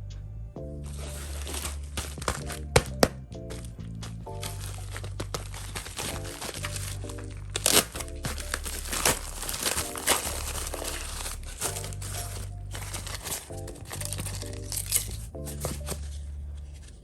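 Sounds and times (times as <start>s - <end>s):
background music with bass: 0.0s - 17.0s
packaging crinkling: 0.9s - 16.2s.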